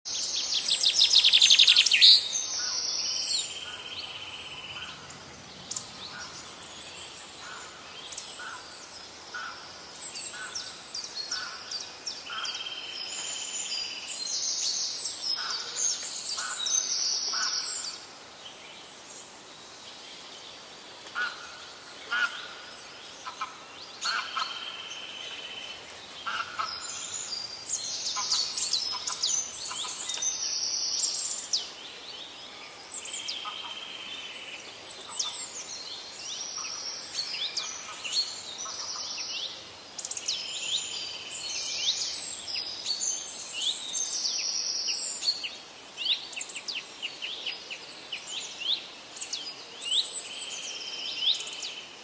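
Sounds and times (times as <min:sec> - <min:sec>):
birds chirping: 0:00.1 - 0:52.0.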